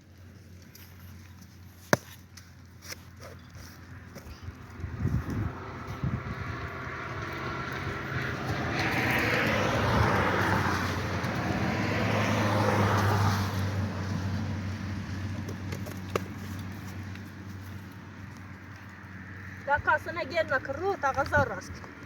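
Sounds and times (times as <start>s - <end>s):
vehicle passing by: 3.9s - 22.0s.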